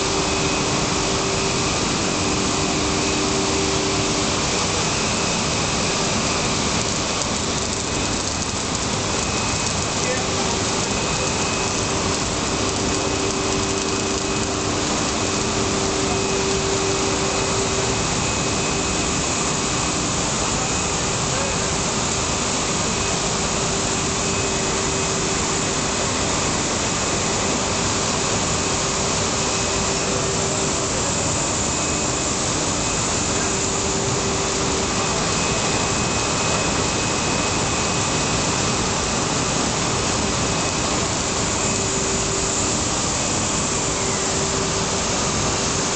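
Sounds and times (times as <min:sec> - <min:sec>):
high machine whine: 0:00.0 - 0:45.9
loud steady machine noise: 0:00.0 - 0:45.9
low machine hum: 0:00.0 - 0:45.9.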